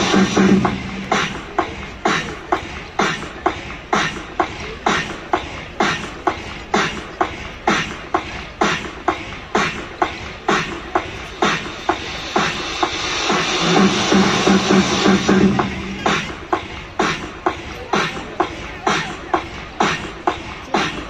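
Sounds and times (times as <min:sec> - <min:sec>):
music with steady drum beat: 0:00.0 - 0:21.0.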